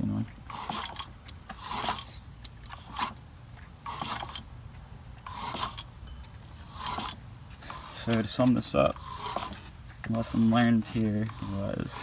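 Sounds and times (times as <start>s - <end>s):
engine turning with rasping scrape: 0.0s - 12.0s.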